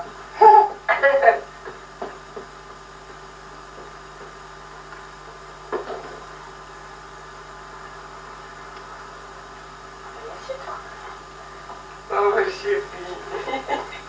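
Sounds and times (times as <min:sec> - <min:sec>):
steady tape hiss and hum: 0:00.0 - 0:14.0.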